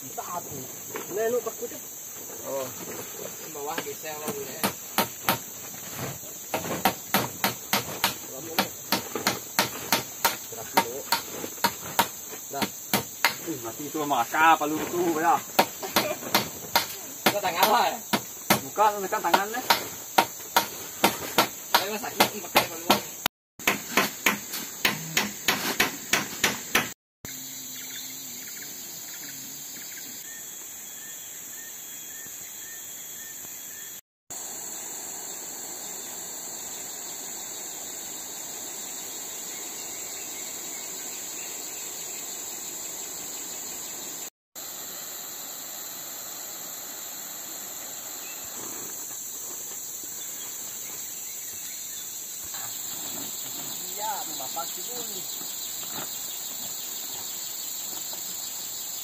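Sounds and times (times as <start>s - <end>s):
shrill insect chorus: 0.0s - 23.2s, 23.8s - 59.0s.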